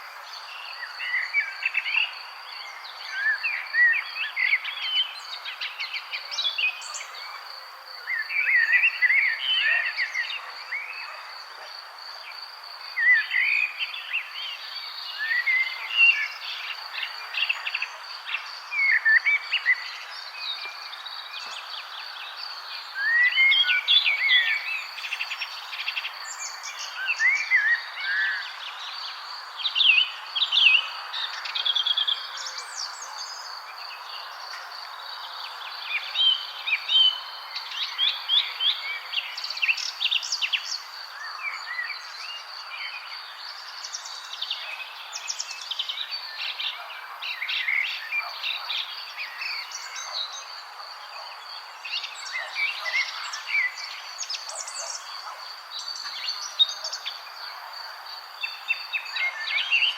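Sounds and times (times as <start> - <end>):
songbirds chirping and singing: 0.0 - 59.9
background hiss: 10.1 - 59.9.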